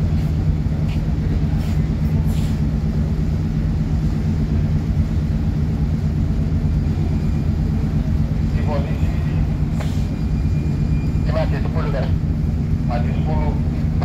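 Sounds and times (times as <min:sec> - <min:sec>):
low diesel engine drone: 0:00.0 - 0:14.0.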